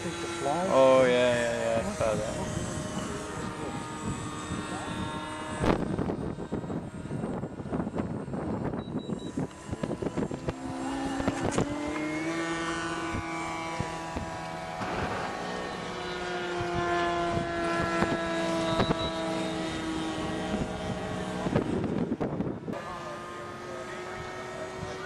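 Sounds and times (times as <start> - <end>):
model airplane engine buzzing: 0.0 - 25.0.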